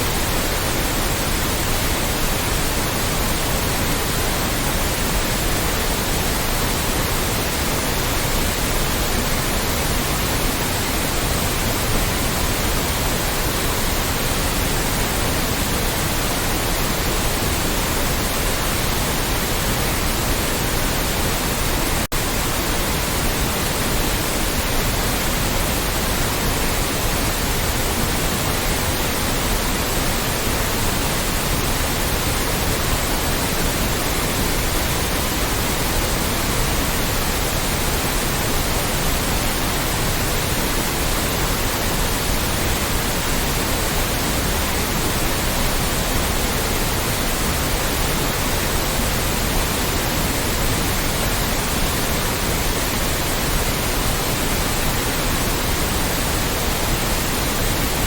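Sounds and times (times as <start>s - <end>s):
loud white noise hiss: 0.0s - 58.0s.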